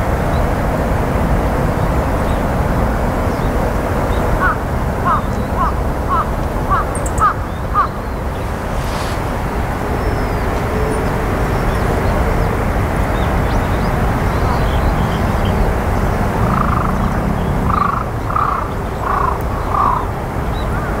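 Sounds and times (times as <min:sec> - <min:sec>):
rushing wind: 0:00.0 - 0:21.0.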